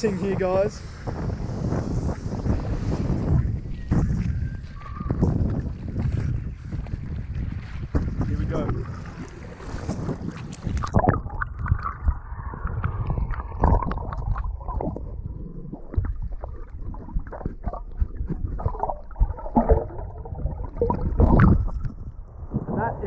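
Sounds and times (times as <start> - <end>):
underwater sloshing and gurgling: 0.9 - 23.0.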